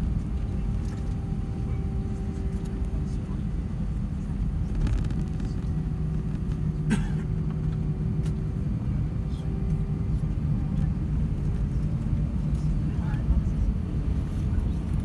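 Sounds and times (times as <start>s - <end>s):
idling jet engines rumble: 0.0s - 15.0s
steady hum: 0.0s - 15.0s
wheels rolling on taxiway: 0.0s - 15.0s.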